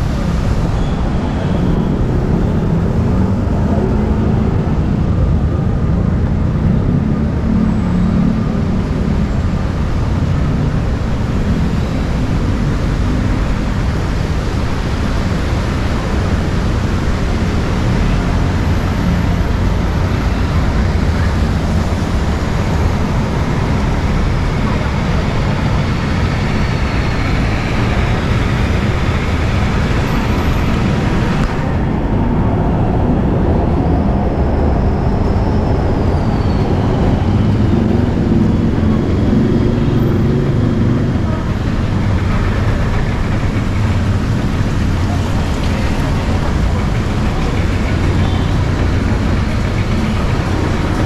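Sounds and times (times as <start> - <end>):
city road traffic rumble: 0.0 - 51.0.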